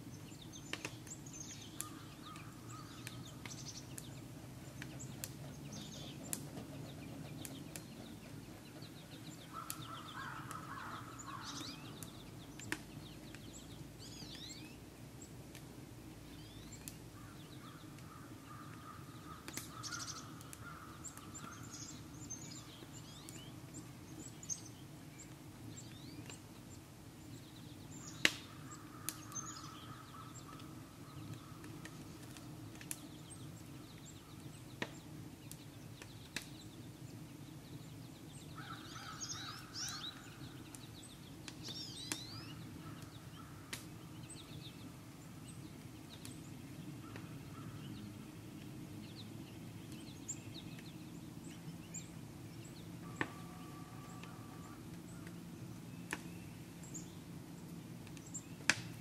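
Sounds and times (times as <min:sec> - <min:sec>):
birds chirping: 0:00.0 - 0:15.4, 0:16.1 - 0:59.0
wood fire crackling: 0:00.0 - 0:38.6, 0:39.2 - 0:47.5, 0:54.1 - 0:59.0.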